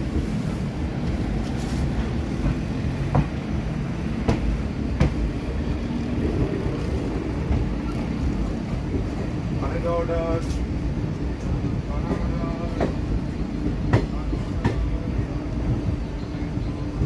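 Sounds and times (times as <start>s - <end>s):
train coach rumbling on rails: 0.0s - 17.0s.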